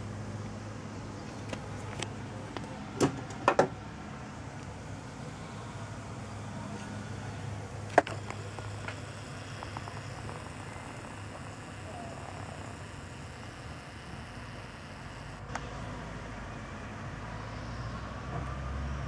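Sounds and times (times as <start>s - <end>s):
distant light aircraft engine drone: 0.0s - 19.0s.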